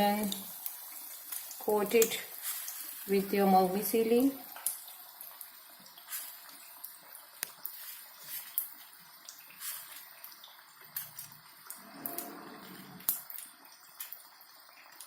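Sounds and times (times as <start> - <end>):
food frying in oil: 0.0 - 15.0.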